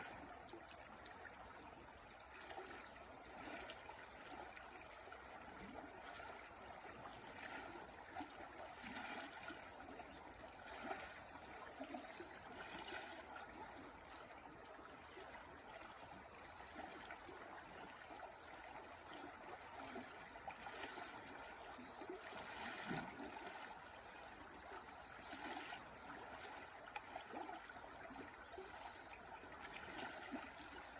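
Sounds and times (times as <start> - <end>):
river water flowing: 0.0 - 30.9.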